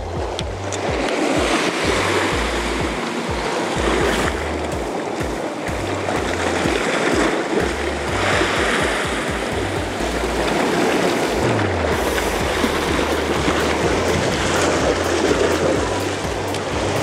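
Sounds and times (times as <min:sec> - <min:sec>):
music with pulsing bass: 0:00.0 - 0:17.0
sea surf: 0:00.0 - 0:17.0.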